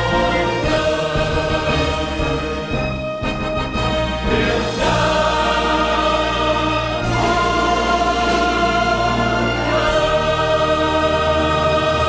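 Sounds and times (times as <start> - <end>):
choir singing held chords: 0.0 - 12.0
instrumental backing music: 0.0 - 12.0.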